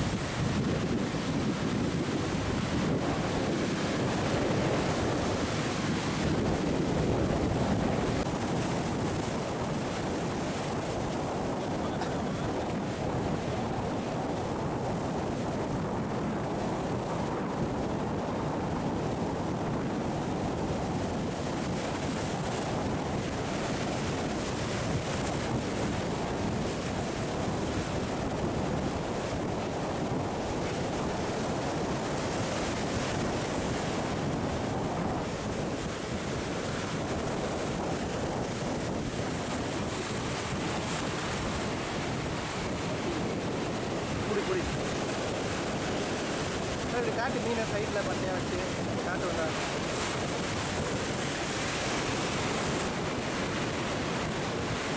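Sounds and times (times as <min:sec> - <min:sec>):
surf breaking over rocks: 0:00.0 - 0:54.9
wind buffeting microphone: 0:00.0 - 0:54.9.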